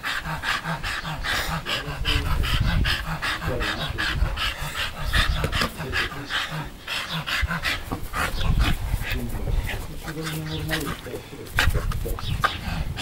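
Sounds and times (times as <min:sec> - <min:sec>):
dog panting fast: 0:00.0 - 0:13.0
low rumbling: 0:00.0 - 0:13.0.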